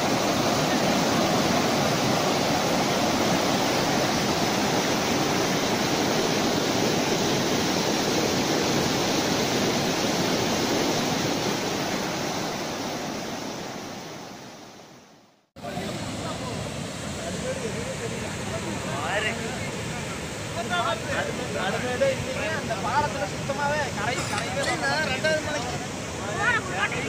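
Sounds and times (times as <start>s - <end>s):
floodwater rushing over a dam: 0.0s - 14.8s, 15.6s - 27.0s.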